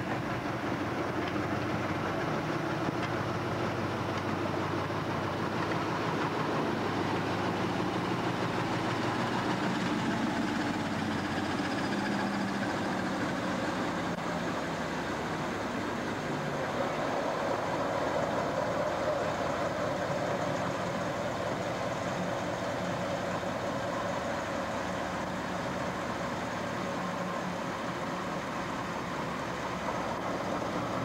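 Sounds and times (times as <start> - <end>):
diesel locomotive engine drone: 0.0 - 31.0
train wheels rumbling on rails: 0.0 - 31.0.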